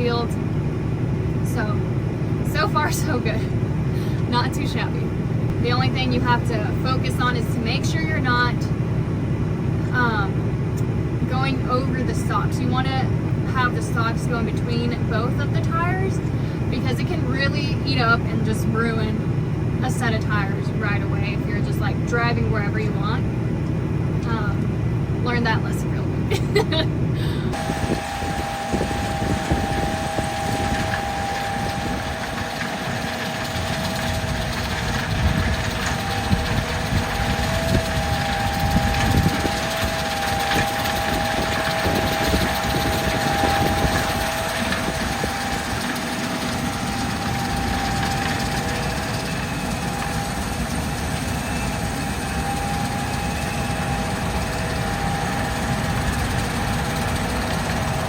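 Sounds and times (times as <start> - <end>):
steady high whine: 0.0 - 58.0
tractor engine running: 0.0 - 58.0.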